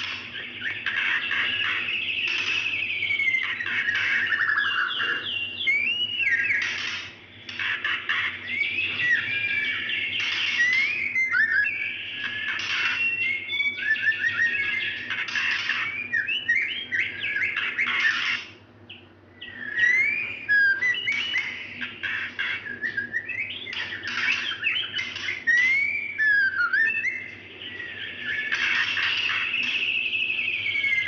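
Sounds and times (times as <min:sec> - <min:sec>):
bird whistling and chirping: 0:00.0 - 0:31.0.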